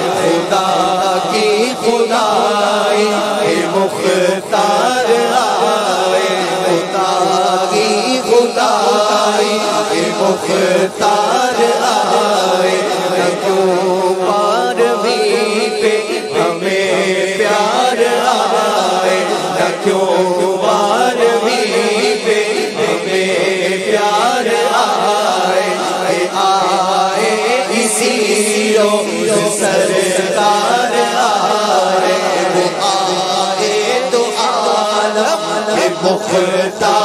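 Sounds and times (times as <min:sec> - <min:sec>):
man singing into microphone: 0:00.0 - 0:37.0.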